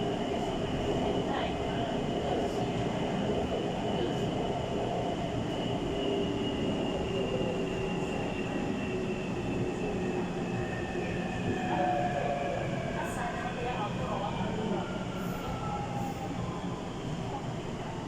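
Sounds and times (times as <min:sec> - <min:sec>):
train rumble and rail noise: 0:00.0 - 0:18.0.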